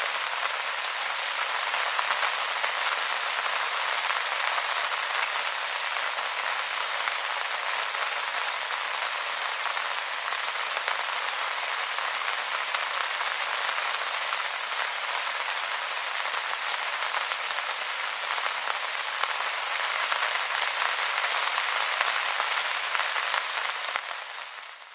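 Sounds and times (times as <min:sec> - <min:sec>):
rain on wet leaves: 0:00.0 - 0:24.9.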